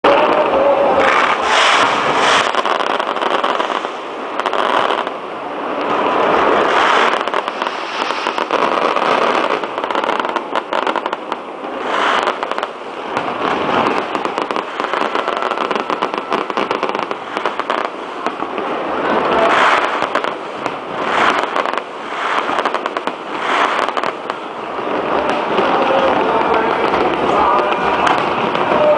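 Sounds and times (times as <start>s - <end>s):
fireworks crackling and banging: 0.0s - 28.9s.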